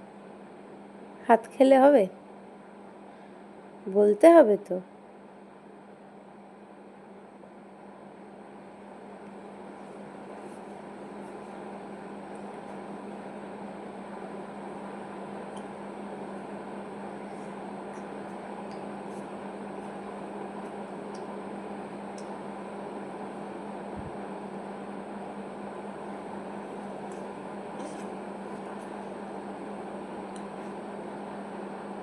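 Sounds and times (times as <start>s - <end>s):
mechanical hum and hiss: 0.0s - 32.0s.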